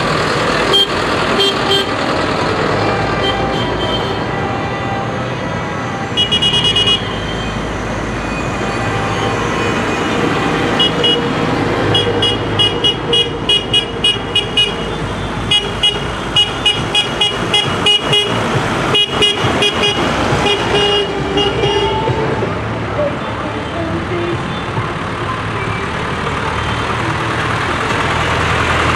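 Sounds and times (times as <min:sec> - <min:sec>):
tractor engines running: 0:00.0 - 0:28.9.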